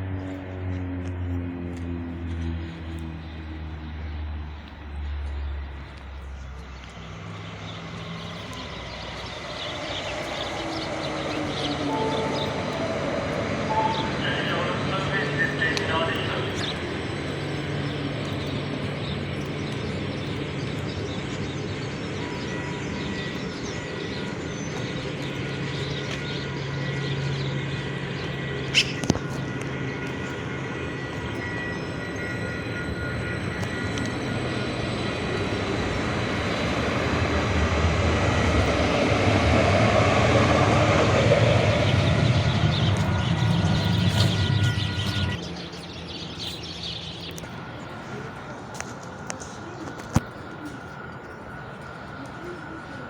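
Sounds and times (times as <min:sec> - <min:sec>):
moving vehicle running noise: 0:00.0 - 0:53.0.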